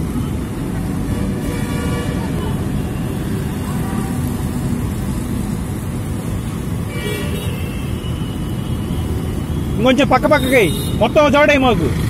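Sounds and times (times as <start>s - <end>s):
city road traffic rumble: 0.0s - 12.0s
motorbikes passing: 0.0s - 12.0s.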